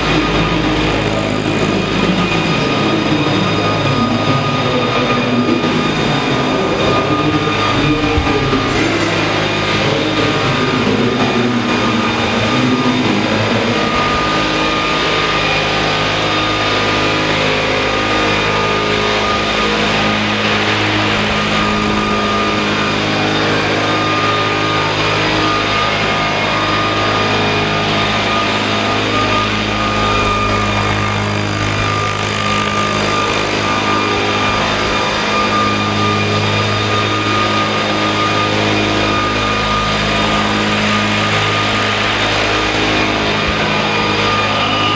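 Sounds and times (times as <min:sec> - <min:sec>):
model helicopter rotors droning: 0:00.0 - 0:44.9
thin high whine: 0:00.0 - 0:44.9.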